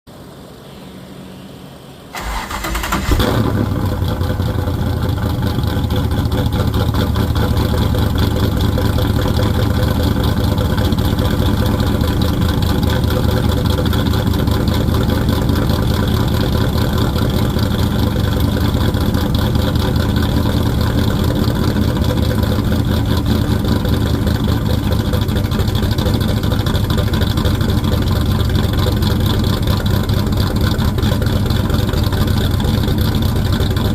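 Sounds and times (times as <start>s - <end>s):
race car engine starting and idling: 0.2s - 33.9s.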